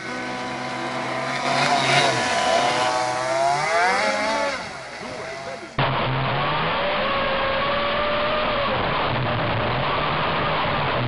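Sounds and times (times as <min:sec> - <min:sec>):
boat two-stroke engine racing: 0:00.0 - 0:11.0.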